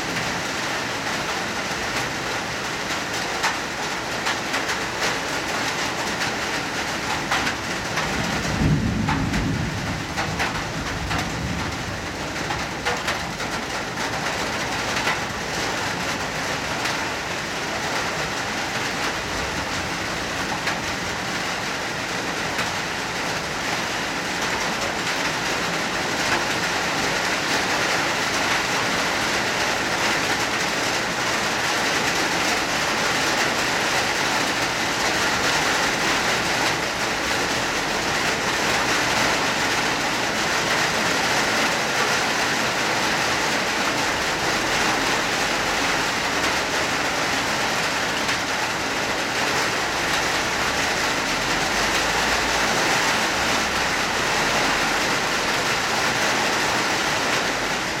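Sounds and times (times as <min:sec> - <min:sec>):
hard rain falling: 0:00.0 - 0:58.0.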